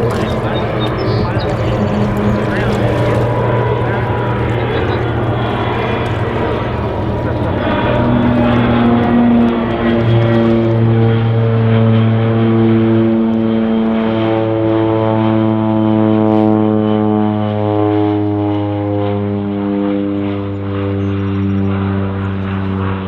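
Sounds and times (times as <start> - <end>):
propeller drone: 0.0 - 23.0.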